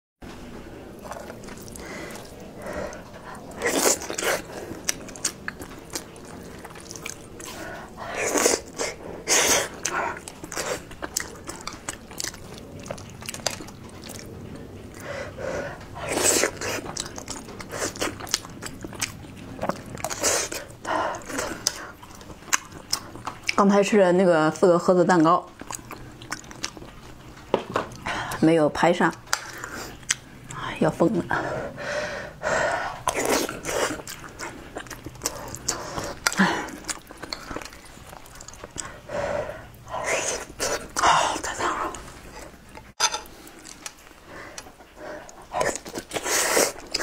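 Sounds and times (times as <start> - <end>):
person eating porridge: 0.9 - 23.6, 25.5 - 28.4, 31.3 - 47.0.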